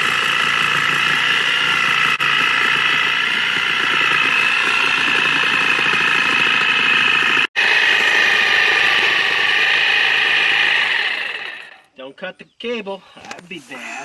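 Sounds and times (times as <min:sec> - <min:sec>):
power saw cutting rubber tire: 0:00.0 - 0:11.9, 0:13.2 - 0:14.0.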